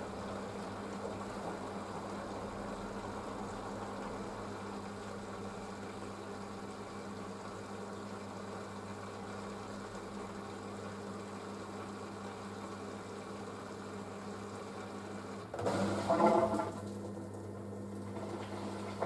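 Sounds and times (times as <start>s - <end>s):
washing machine hum: 0.0s - 19.0s.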